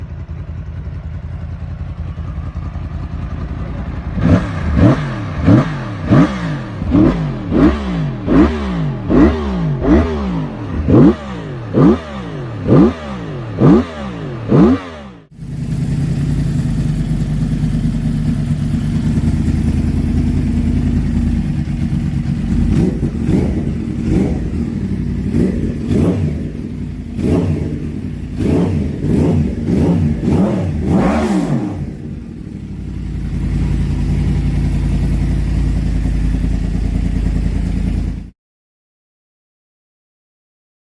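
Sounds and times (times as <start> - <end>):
motorcycle exhaust revving: 0.0 - 38.3.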